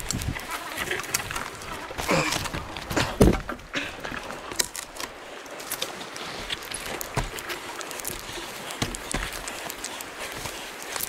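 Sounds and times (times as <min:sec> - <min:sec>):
boots and rope scraping bark: 0:00.0 - 0:11.0.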